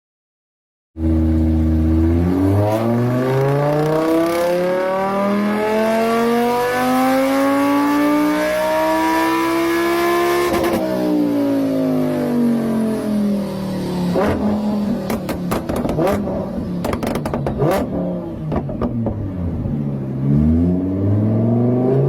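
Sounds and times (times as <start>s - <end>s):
sports car engine accelerating: 1.0s - 22.0s.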